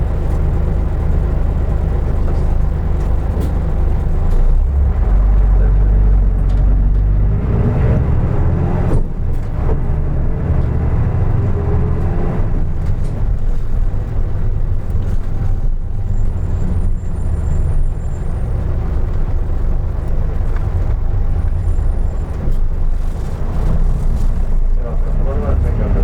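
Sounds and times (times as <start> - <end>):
bus diesel engine running: 0.0 - 26.0
road noise: 0.0 - 26.0.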